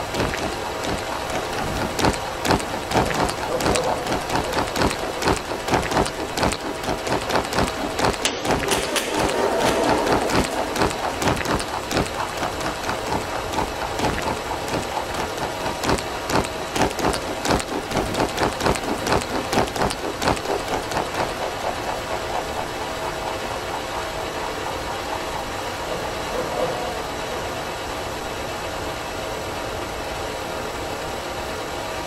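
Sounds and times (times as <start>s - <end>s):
dense crackling clicks: 0.0s - 25.9s
noisy hiss: 0.0s - 32.0s.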